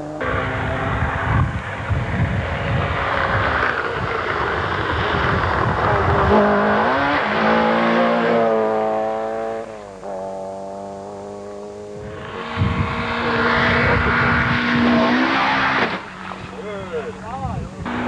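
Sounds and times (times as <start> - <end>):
rally car engine at full speed: 0.0 - 18.0.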